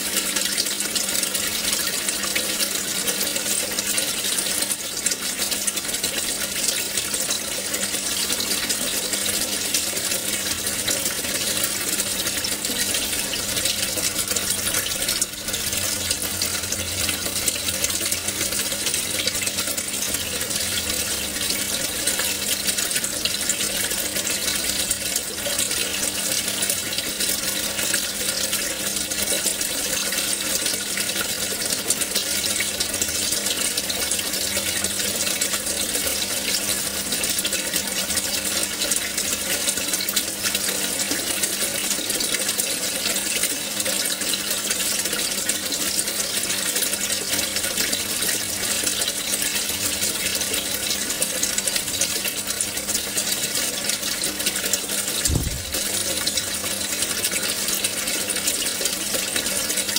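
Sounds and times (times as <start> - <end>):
aquarium water trickling and bubbling: 0.0 - 59.9.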